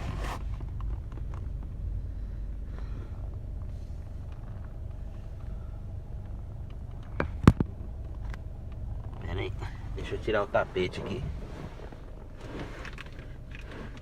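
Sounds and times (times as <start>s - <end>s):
car rumbling: 0.0s - 14.0s.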